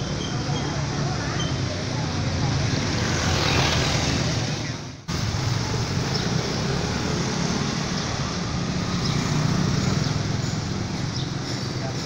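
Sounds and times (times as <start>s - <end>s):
scooter and motorbike engines passing: 0.1s - 12.0s.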